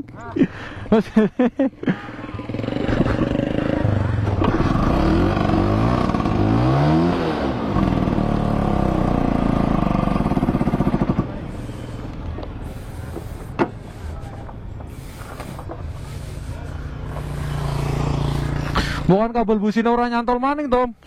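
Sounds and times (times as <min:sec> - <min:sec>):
scooter engine revving unevenly: 0:01.9 - 0:19.1.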